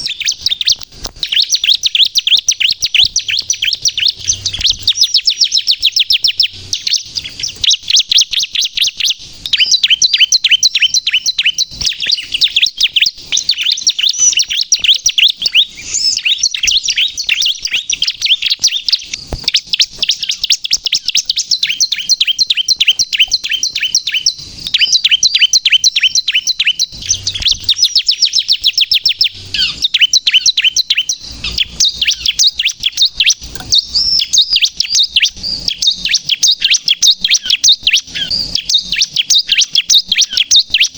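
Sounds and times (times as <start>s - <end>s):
bird singing high chirps: 0.0s - 40.9s.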